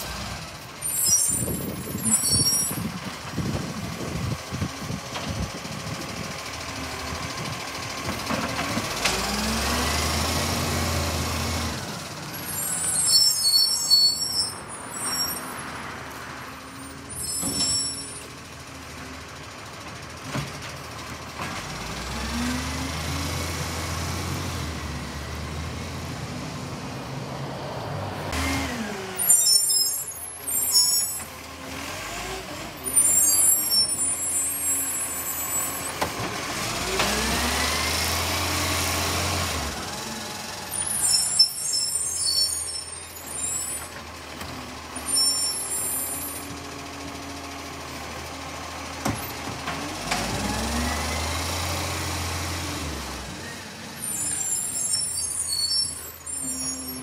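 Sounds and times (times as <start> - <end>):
garbage truck diesel engine revving: 1.5 - 13.3, 17.8 - 29.6, 30.3 - 57.0.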